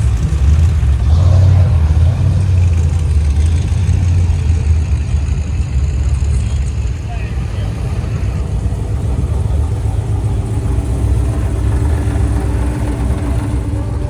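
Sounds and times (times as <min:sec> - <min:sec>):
car engine deep rumble: 0:00.0 - 0:14.0.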